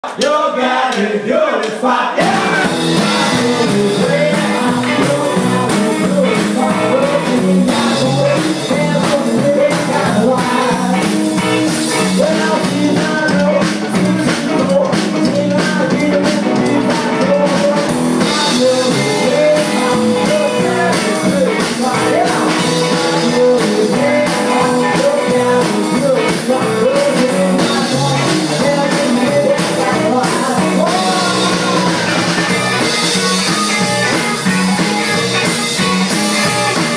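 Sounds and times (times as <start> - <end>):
drum kit beat: 2.2 - 36.9
electric guitar through amp: 2.2 - 36.9.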